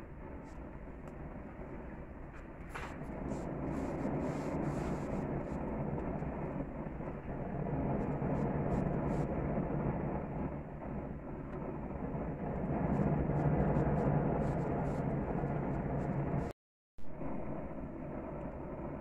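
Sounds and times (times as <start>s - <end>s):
gas grill flame rushing: 0.0s - 16.5s.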